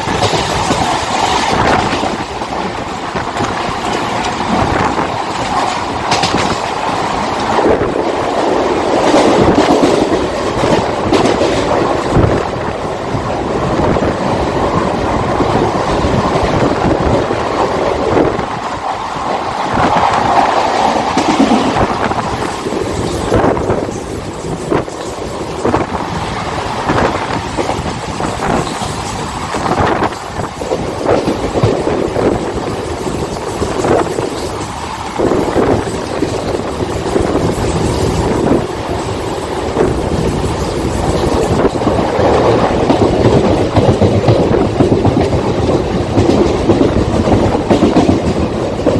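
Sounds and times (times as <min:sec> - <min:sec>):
train wheels rumbling on track: 0:00.0 - 0:48.9
wheels clacking over rail joints: 0:00.0 - 0:48.9.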